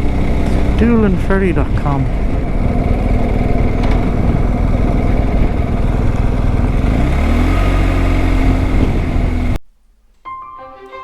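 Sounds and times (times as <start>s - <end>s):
motorcycle engine accelerating: 0.0s - 9.6s
riding noise rush: 0.0s - 9.6s.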